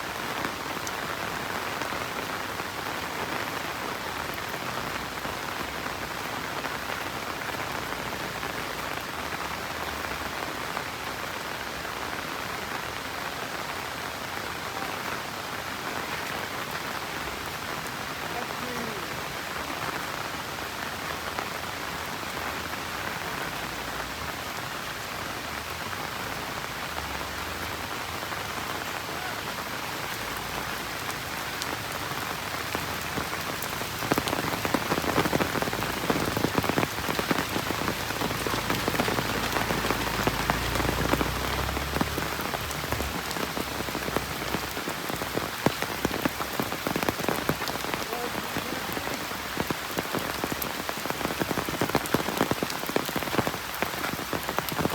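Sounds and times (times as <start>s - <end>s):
steady rain falling: 0.0s - 54.9s
close raindrop impacts: 0.1s - 54.9s.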